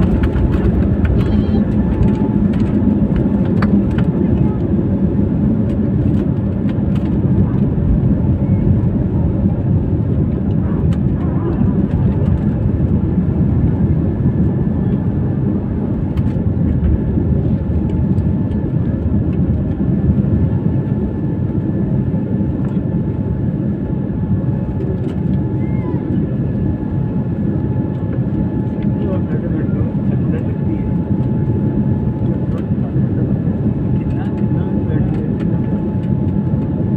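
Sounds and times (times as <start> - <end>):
jet engines roaring in cabin: 0.0 - 36.9.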